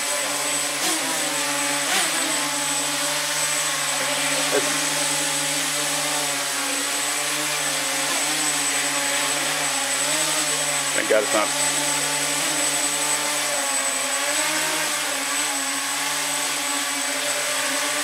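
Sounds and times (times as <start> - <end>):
drone motors humming: 0.0 - 18.0.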